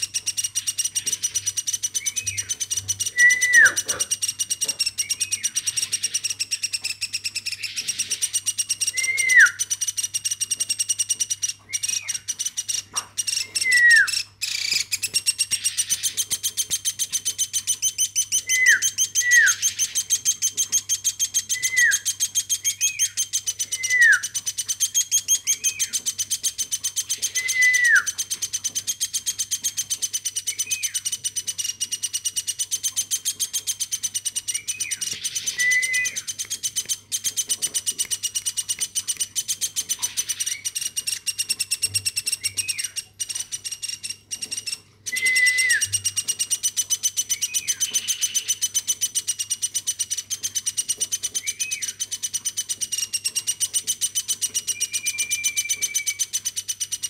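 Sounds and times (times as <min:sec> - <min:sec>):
bird chick trilling: 0:00.0 - 0:57.0.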